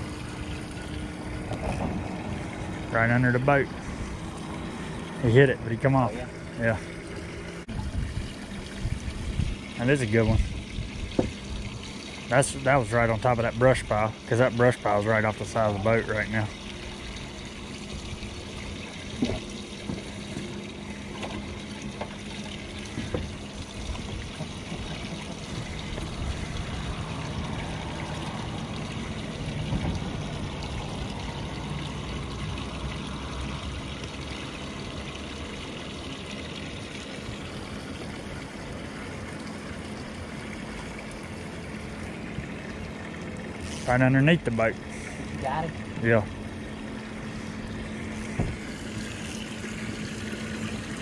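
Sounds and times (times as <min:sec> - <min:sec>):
steady low hum: 0:00.0 - 0:51.0
water lapping against boat hull: 0:00.0 - 0:51.0.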